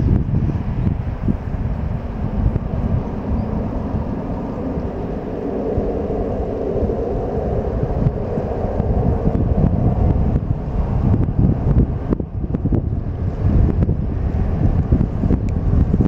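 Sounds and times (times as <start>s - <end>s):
jet engines droning: 0.0s - 16.0s
wind rumbling on microphone: 0.0s - 16.0s.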